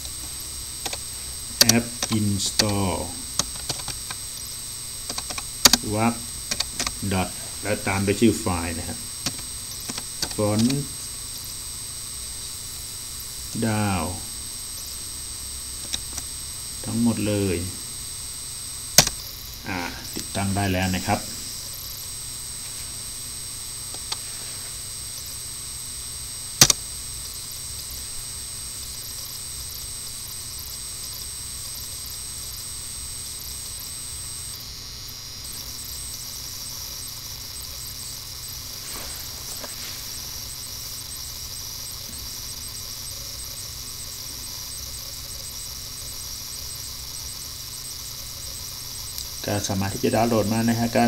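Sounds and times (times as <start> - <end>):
background hiss: 0.0 - 51.0
electrical hum: 0.0 - 51.0
thin high whine: 0.0 - 51.0.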